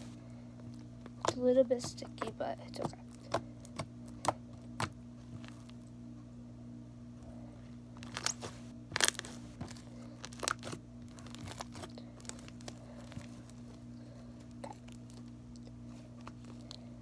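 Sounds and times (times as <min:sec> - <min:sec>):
low hum: 0:02.0 - 0:17.0.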